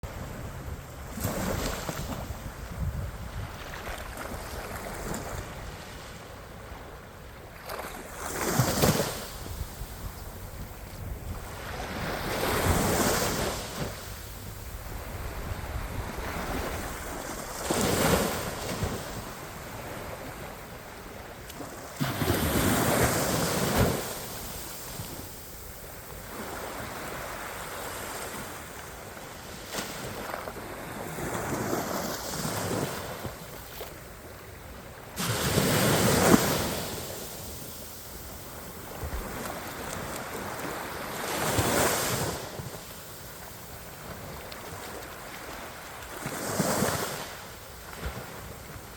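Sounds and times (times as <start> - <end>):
wind on microphone: 0.0 - 7.0, 8.0 - 34.0, 35.2 - 48.9
sea waves crashing on beach: 0.0 - 48.9.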